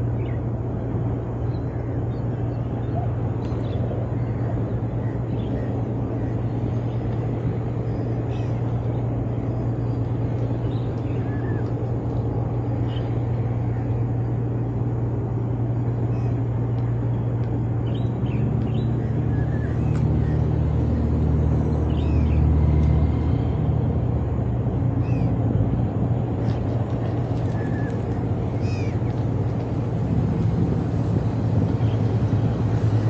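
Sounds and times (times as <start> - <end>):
deeper engine: 0.0 - 33.0
low engine drone: 0.0 - 33.0.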